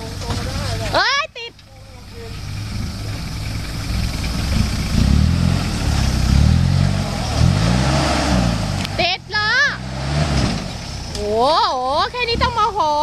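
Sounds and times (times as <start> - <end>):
vehicle engine revving: 1.8 - 13.0.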